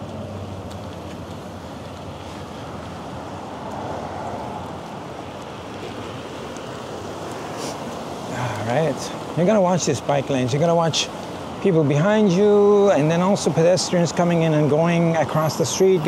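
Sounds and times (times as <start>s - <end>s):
city traffic: 0.0s - 16.0s
vehicle engine hum: 0.0s - 16.0s.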